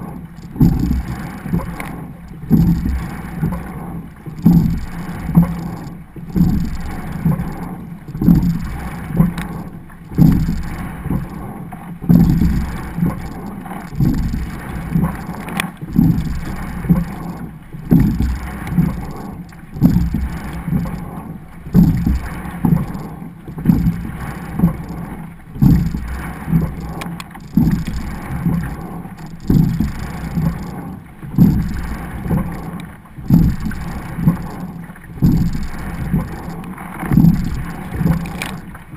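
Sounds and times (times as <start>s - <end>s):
water rushing and splashing: 0.0s - 38.9s.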